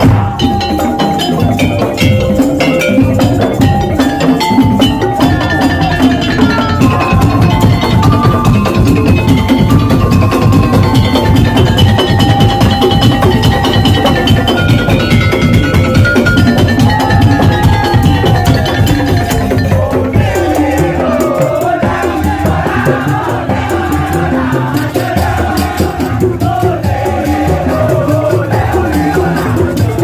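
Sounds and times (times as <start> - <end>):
wavering melodic lines: 0.0 - 25.7
percussion ensemble playing: 0.0 - 30.0
wooden slit drums beating: 0.0 - 30.0.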